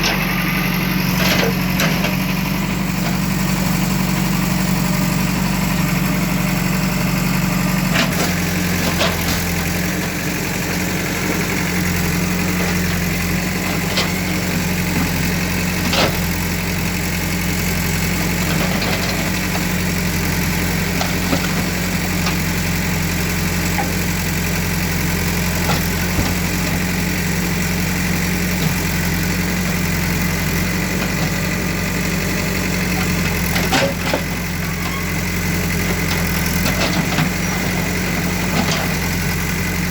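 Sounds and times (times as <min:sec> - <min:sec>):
machinery engine idling: 0:00.0 - 0:39.9.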